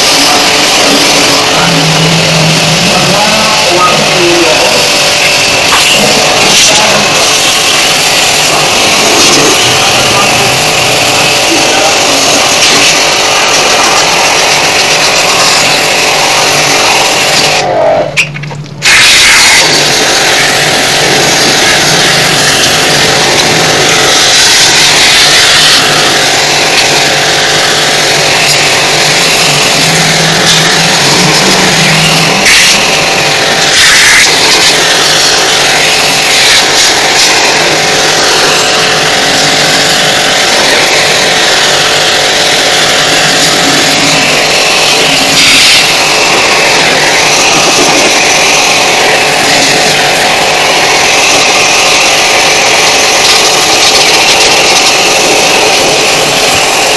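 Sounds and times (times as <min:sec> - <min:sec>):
pressure washer jet spattering: 0:00.0 - 0:56.9.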